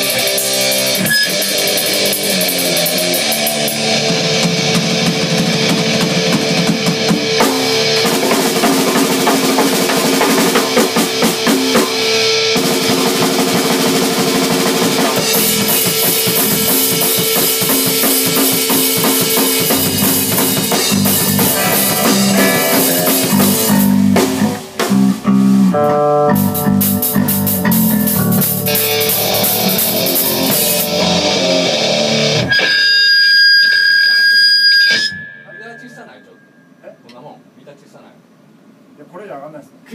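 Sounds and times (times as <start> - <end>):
drum kit: 0.0 - 33.0
distorted electric guitar: 0.0 - 35.9
guitar amp feedback howl: 0.0 - 37.0.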